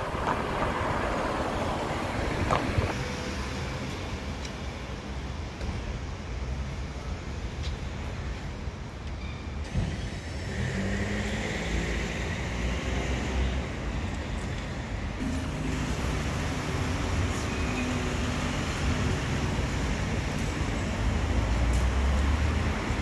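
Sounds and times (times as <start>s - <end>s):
vehicle engine hum: 0.0s - 8.6s, 10.0s - 23.0s
traffic rumble: 0.0s - 23.0s.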